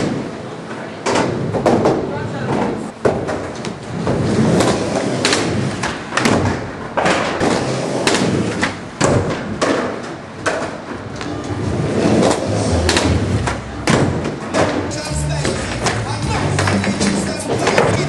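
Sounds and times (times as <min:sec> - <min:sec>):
skateboards thudding on wood: 0:01.0 - 0:11.5, 0:12.1 - 0:18.0
skateboard wheels rolling: 0:03.2 - 0:18.0.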